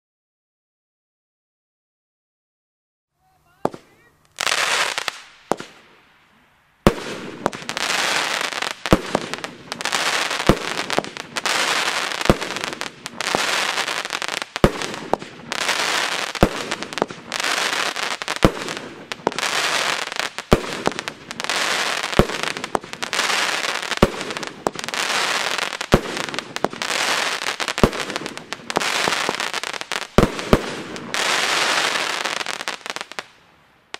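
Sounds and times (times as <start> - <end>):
crackling firework bursts: 3.2 - 33.9
firework shots: 3.5 - 6.0, 6.8 - 33.4.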